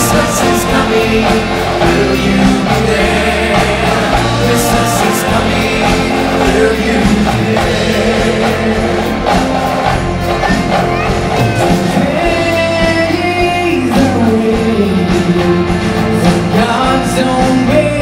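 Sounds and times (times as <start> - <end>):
bass guitar: 0.0 - 18.0
choir singing: 0.0 - 18.0
drum and cymbal hits: 0.0 - 18.0
guitar: 0.0 - 18.0.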